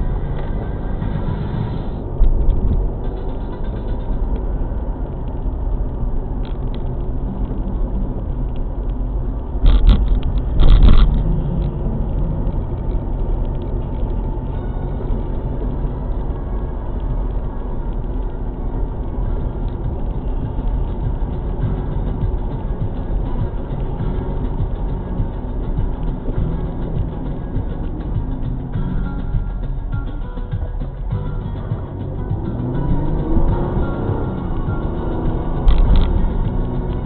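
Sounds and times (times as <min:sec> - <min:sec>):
road rumble inside car: 0:00.0 - 0:37.0.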